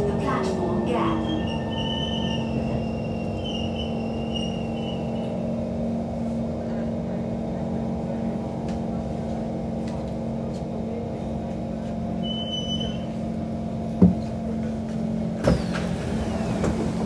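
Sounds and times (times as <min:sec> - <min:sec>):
train equipment hum: 0:00.0 - 0:17.0.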